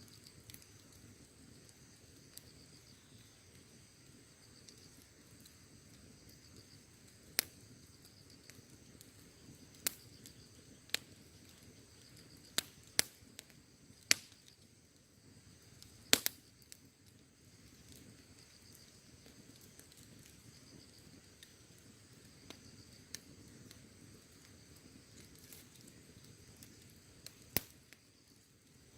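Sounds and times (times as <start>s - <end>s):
insects chirping: 0.0s - 28.9s
wood bonfire crackling: 0.0s - 28.9s.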